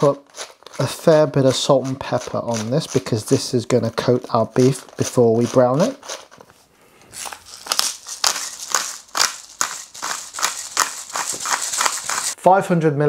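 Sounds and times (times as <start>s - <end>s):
mills grinding with crunchy crackle: 0.0s - 6.5s, 7.2s - 12.4s.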